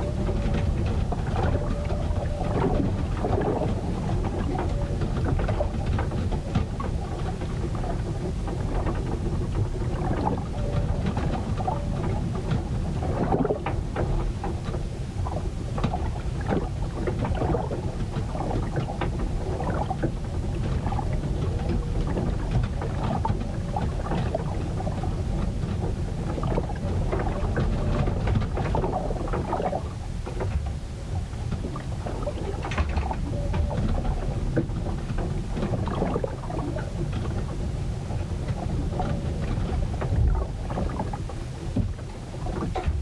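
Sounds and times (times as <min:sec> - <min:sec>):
deep rumble of wind and water: 0:00.0 - 0:43.0
rain and water splashing: 0:00.0 - 0:43.0.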